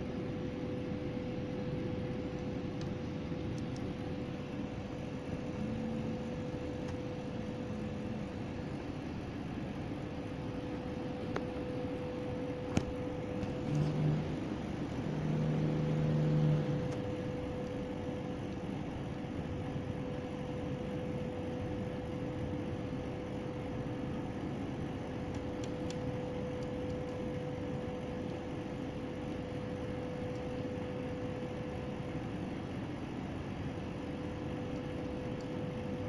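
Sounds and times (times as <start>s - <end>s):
constant mid-pitched tone: 0.0s - 36.0s
mechanical hum: 0.0s - 36.0s.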